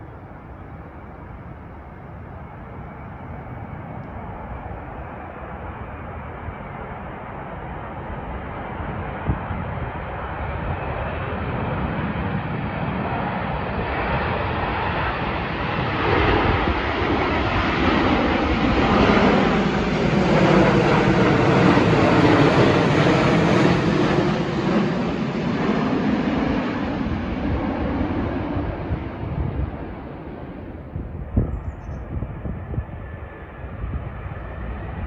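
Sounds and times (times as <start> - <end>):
jet airliner flying overhead: 0.0 - 35.0
wind buffeting microphone: 0.0 - 35.0.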